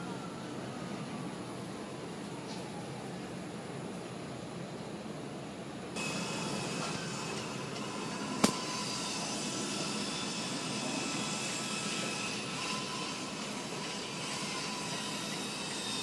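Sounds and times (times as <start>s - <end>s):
distant jet engines whining: 0.0s - 16.0s.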